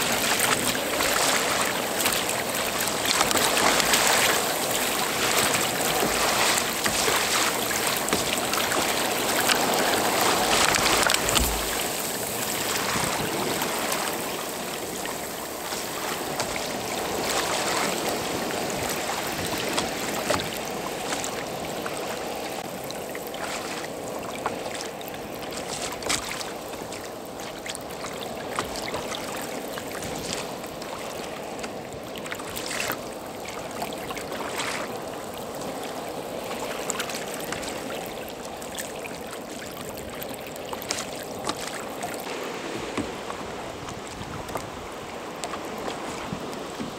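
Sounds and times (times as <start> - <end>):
sharp splashes and ticks: 0.0 - 42.4
water rushing along kayak hull: 0.0 - 46.9.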